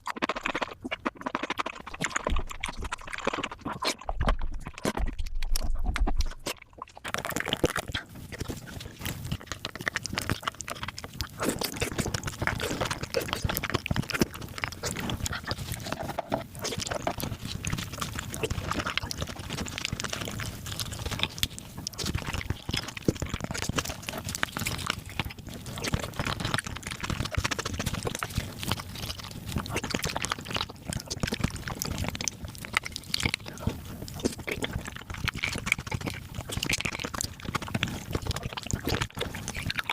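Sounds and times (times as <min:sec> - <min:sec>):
wet chewing and mouth clicks: 0:00.0 - 0:39.9.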